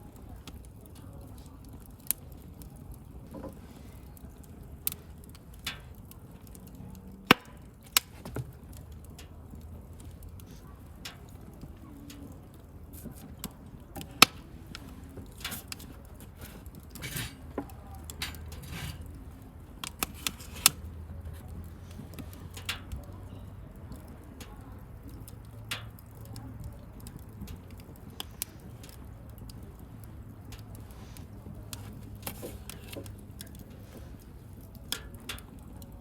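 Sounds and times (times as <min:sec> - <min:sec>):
bonfire crackling and popping: 0:00.0 - 0:36.0
low fire rumble: 0:00.0 - 0:36.0.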